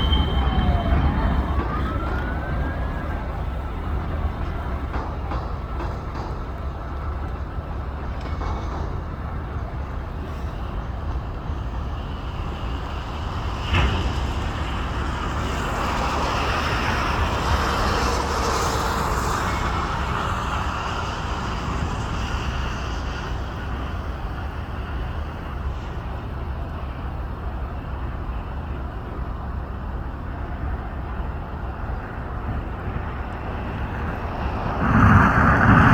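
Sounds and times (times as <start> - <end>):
airliner cabin rumble and hiss: 0.0 - 35.9.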